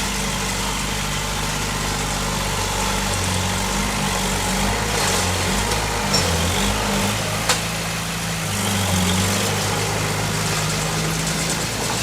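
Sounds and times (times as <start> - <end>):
bulldozer diesel engine idling: 0.0 - 12.0.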